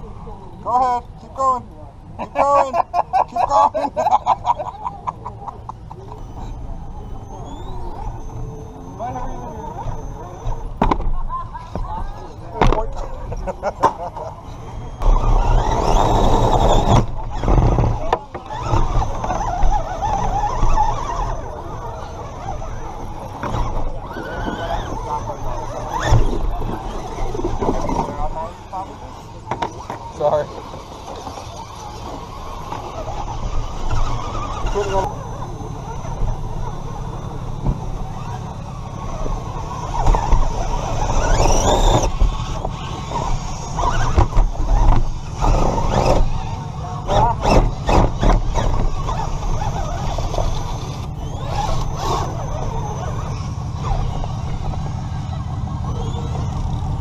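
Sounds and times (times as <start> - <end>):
rc truck drivetrain rumble: 0.0 - 57.0
electric motor whining: 5.9 - 57.0.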